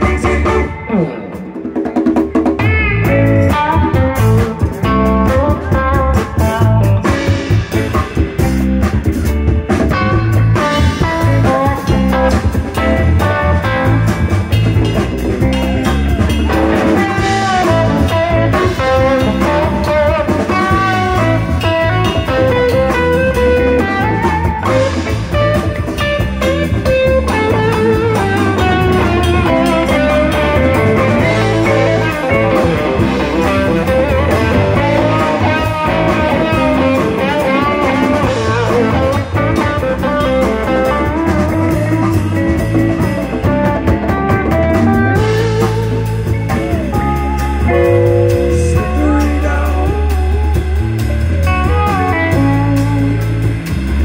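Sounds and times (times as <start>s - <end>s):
electric guitars: 0.0s - 54.0s
live band playing: 0.0s - 54.0s.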